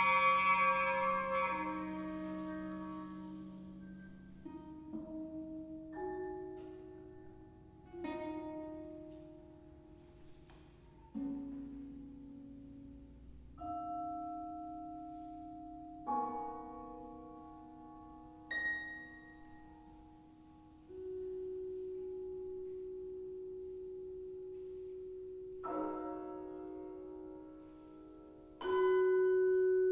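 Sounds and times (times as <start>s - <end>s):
quiet chamber music: 0.0s - 29.9s.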